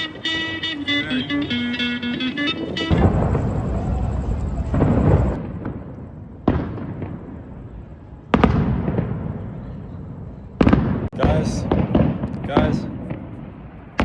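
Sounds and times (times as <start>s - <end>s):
fireworks sharp bangs: 0.0s - 9.6s, 10.6s - 14.0s
fireworks rumbling burst: 0.0s - 14.0s.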